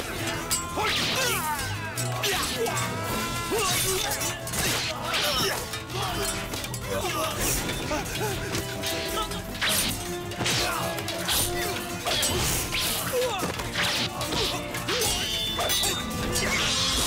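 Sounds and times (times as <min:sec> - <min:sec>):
dramatic background music: 0:00.0 - 0:17.0.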